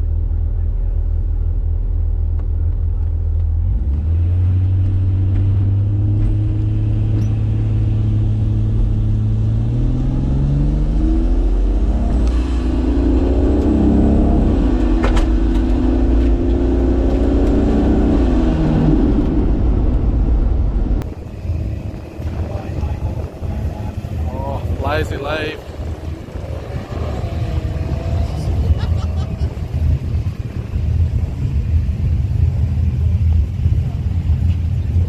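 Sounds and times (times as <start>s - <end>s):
turbocharged car engine revving: 3.3s - 35.0s.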